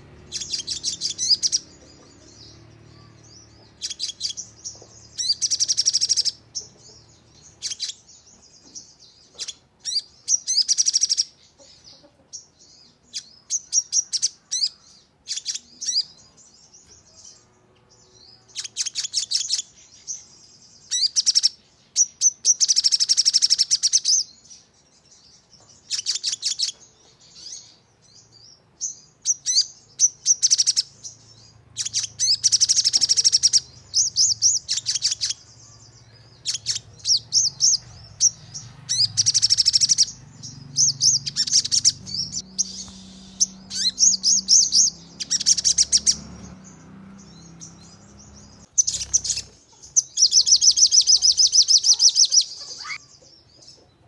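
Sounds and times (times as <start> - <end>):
songbird chirping rapidly: 0.0 - 54.0.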